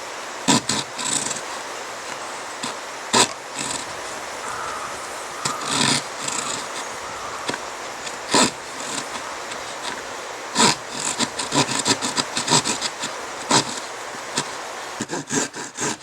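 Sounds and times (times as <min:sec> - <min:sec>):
wood scraping strokes: 0:00.0 - 0:16.0.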